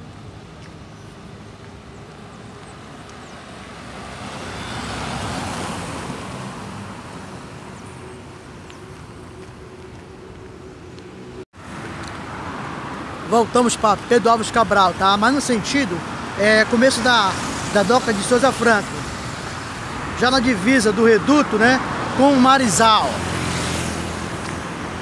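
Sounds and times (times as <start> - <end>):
passing cars hum: 0.0 - 25.0
vehicle passing close: 1.0 - 25.0.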